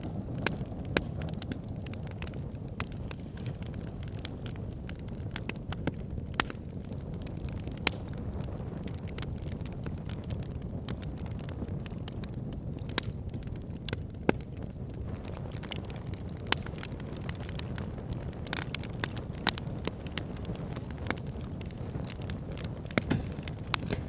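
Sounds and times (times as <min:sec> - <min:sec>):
fire flames rumbling: 0:00.0 - 0:24.0
logs crackling and popping: 0:00.0 - 0:24.0.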